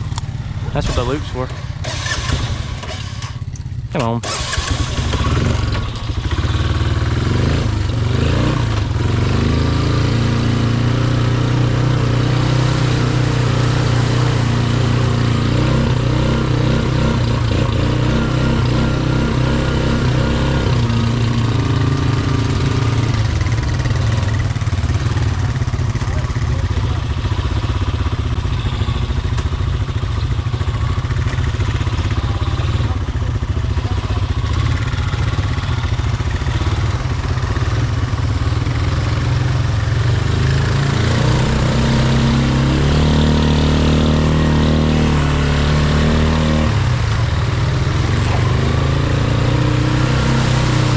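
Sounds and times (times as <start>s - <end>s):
off-road vehicle engine revving: 0.0s - 29.1s, 31.0s - 50.9s.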